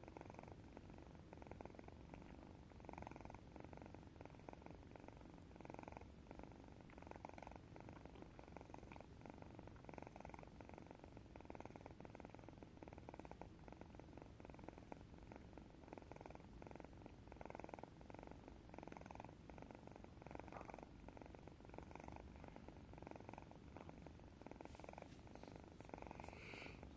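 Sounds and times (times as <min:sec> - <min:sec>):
cat snoring: 0:00.0 - 0:26.9.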